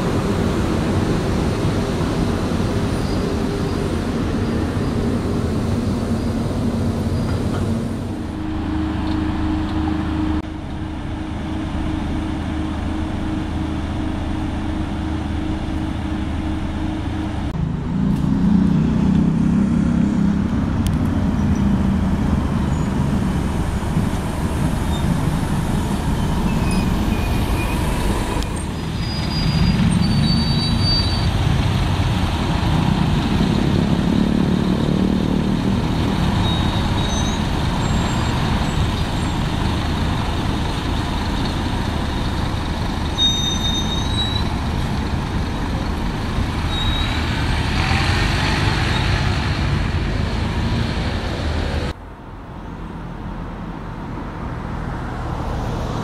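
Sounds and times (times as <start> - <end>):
coach engine rumbling: 0.0 - 52.2
road noise: 0.0 - 56.0
road traffic: 0.0 - 56.0.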